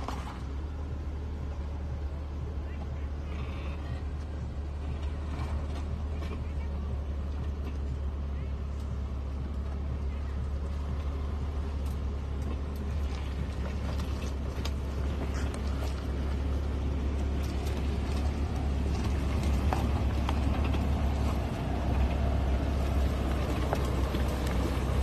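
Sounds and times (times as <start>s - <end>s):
car engine running low: 0.0s - 25.0s
tyres crunching over stones: 4.7s - 25.0s.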